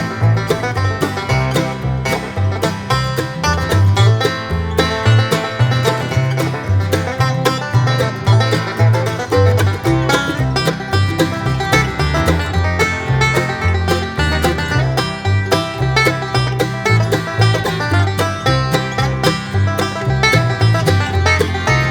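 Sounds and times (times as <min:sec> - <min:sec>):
plucked string music with bass: 0:00.0 - 0:21.9.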